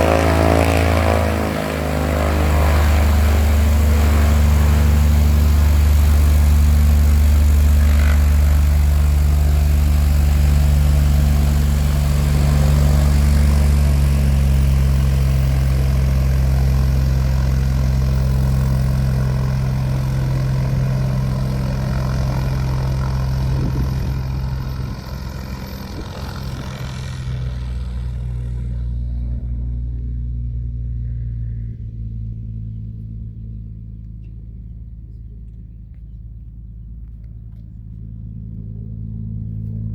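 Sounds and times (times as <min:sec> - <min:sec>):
airplane engine and propeller: 0:00.0 - 0:39.9.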